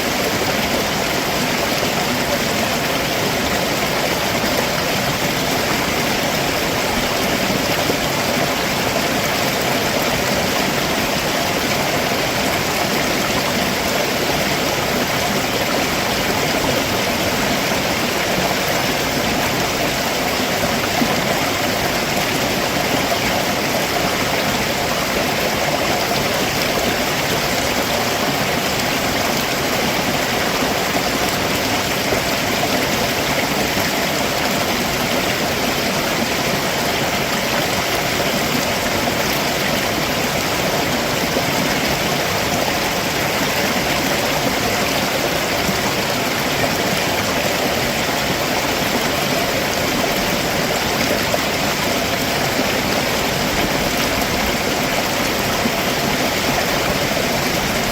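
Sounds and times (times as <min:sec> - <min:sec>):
stream water running over rocks: 0:00.0 - 0:57.9.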